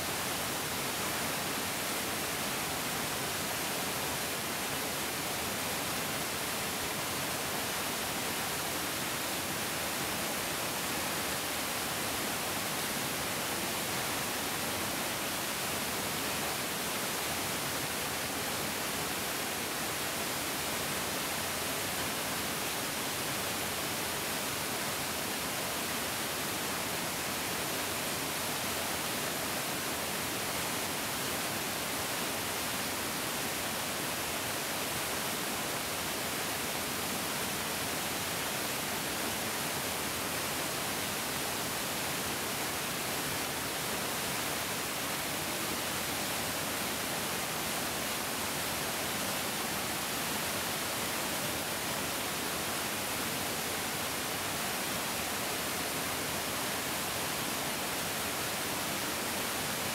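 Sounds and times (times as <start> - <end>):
stream rushing water: 0.0 - 59.9.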